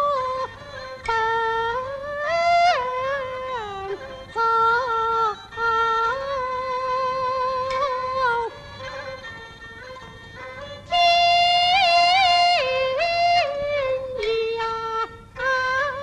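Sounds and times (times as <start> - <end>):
fiddle melody: 0.0 - 16.0.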